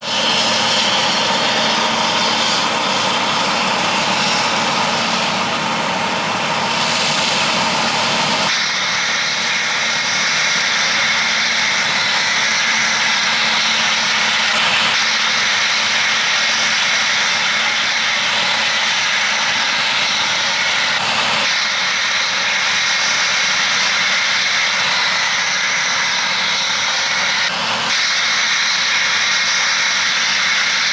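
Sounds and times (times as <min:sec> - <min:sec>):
combine harvester drone: 0:00.0 - 0:30.9
high machine whine: 0:00.0 - 0:30.9.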